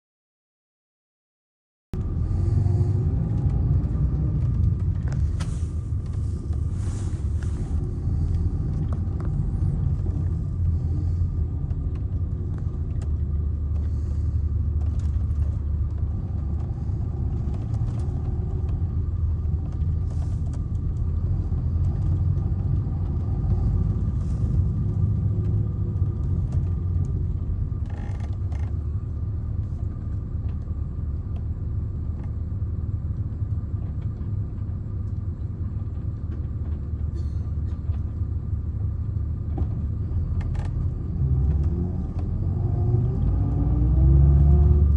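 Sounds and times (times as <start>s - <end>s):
diesel bus engine rumbling: 2.0s - 44.9s.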